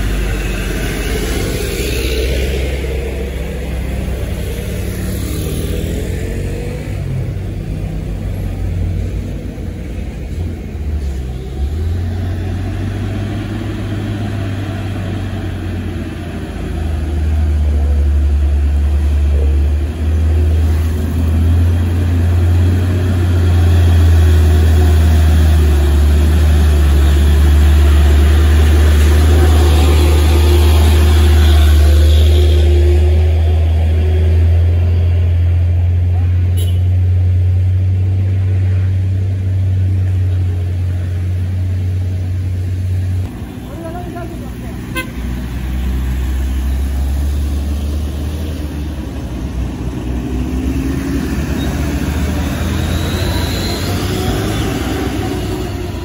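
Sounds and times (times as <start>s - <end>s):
diesel truck engines humming: 0.0s - 56.0s
truck driving past: 0.0s - 56.0s.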